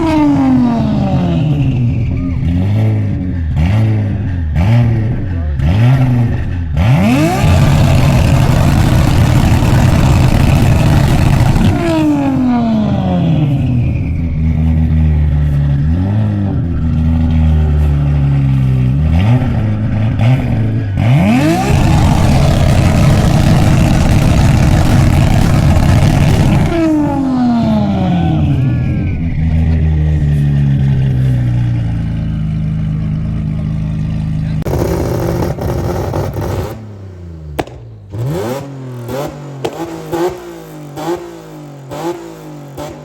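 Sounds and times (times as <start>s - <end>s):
car engine revving loudly: 0.0s - 43.0s.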